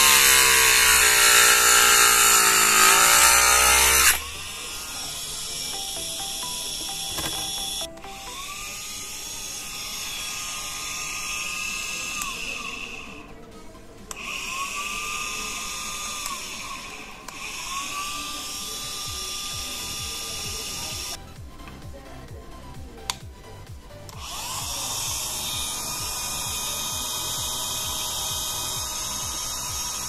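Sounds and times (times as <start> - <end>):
drill motor whining: 0.0 - 13.4, 14.1 - 21.2, 24.1 - 30.0.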